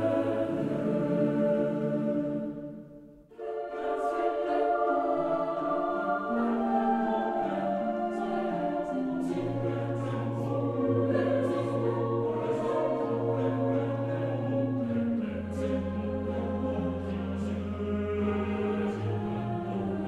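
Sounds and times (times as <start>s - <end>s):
choir holding long chords: 0.0s - 20.0s.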